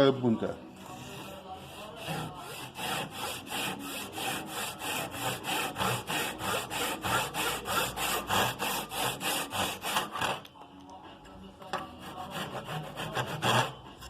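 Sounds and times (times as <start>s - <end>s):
hand saw cutting wood: 0.9s - 10.5s, 12.0s - 13.9s.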